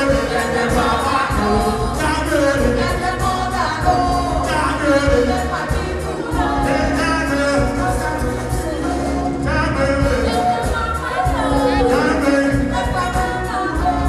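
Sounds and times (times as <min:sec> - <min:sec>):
band with heavy bass beat: 0:00.0 - 0:14.0
person singing: 0:00.0 - 0:14.0.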